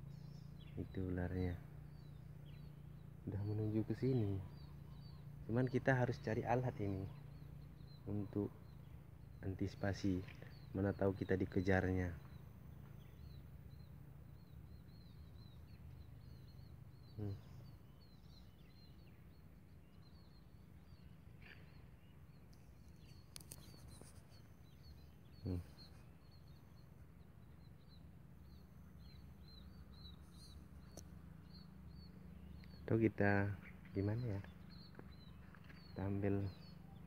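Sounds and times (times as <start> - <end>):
low background hum: 0.0 - 37.0
small birds chirping: 0.0 - 37.0.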